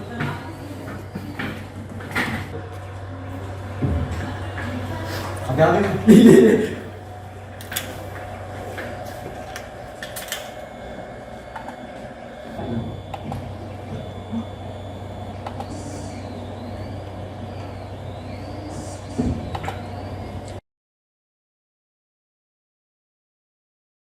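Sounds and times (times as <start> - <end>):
printer mechanical hum: 0.0 - 20.6
stepper motor whines: 0.0 - 20.6.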